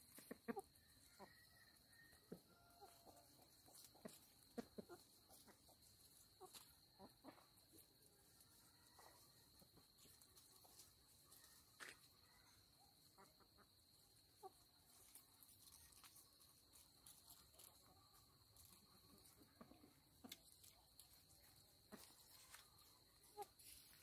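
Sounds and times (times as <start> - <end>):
chicken cluck: 0.0 - 24.0
insect trill: 0.2 - 24.0.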